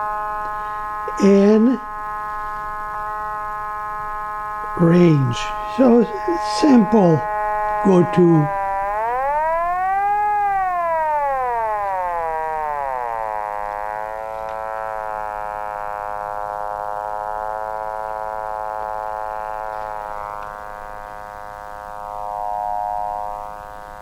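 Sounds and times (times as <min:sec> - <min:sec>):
buzzy synth tone: 0:00.0 - 0:24.0.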